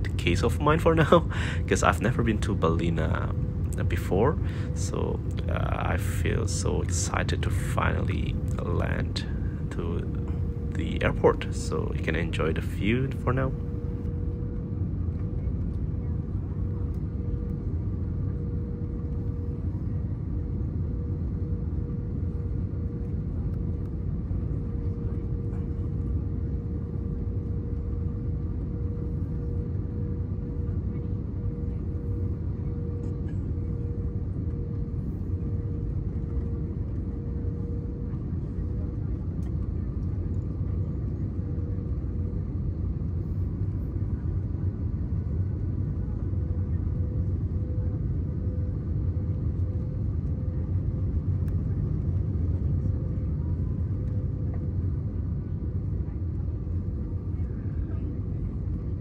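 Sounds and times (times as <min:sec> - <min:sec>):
airplane cabin rumble: 0:00.0 - 0:59.0
steady hum: 0:00.0 - 0:59.0.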